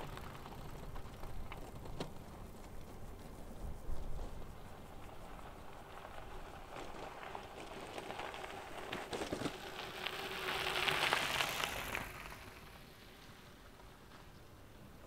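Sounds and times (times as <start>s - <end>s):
bike tyres crunching on gravel: 0.0s - 15.0s.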